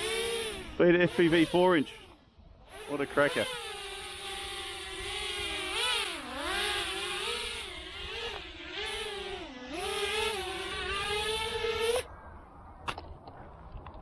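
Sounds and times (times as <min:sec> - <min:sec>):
quadcopter motors whining: 0:00.0 - 0:12.5.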